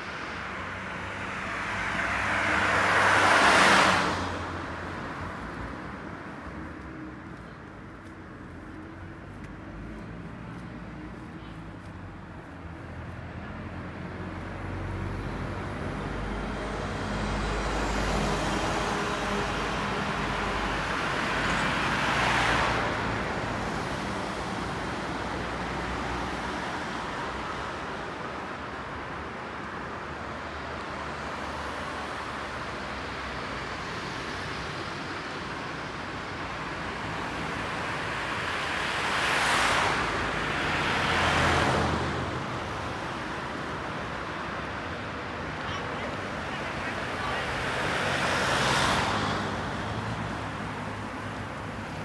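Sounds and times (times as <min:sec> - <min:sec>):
cars driving past: 0:00.0 - 0:52.0.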